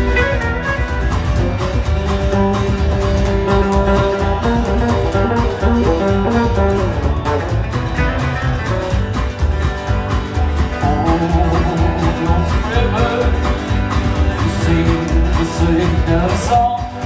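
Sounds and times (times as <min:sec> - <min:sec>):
country band playing: 0:00.0 - 0:17.0
lead guitar: 0:00.0 - 0:17.0.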